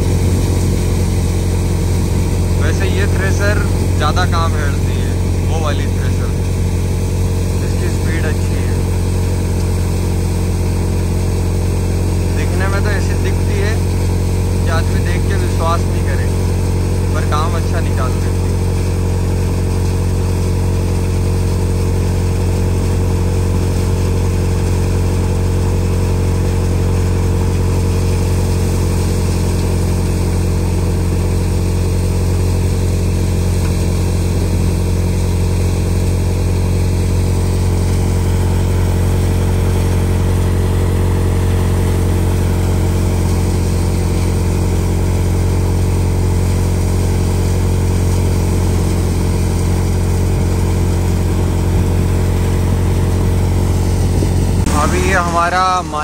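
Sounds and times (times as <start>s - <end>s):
threshing machine: 0.0s - 56.0s
tractor engine running under load: 0.0s - 56.0s.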